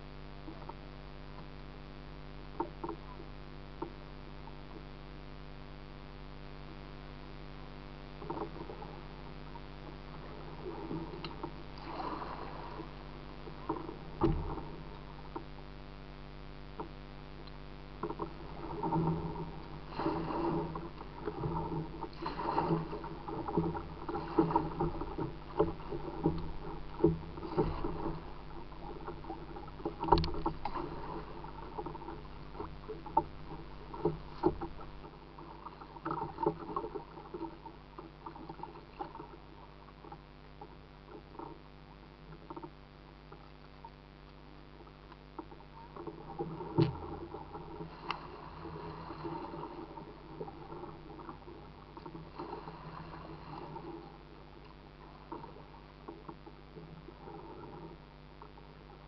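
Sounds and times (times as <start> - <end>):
water splashing against kayak hull: 0.0 - 59.0.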